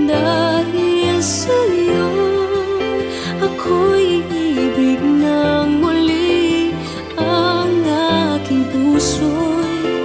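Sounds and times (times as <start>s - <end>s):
pop song with vibrato melody: 0.0s - 10.0s.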